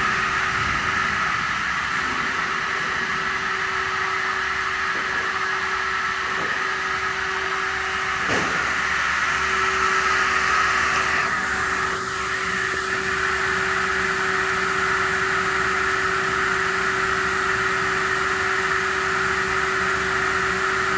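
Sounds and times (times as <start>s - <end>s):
circular saw machine whining: 0.0s - 20.9s.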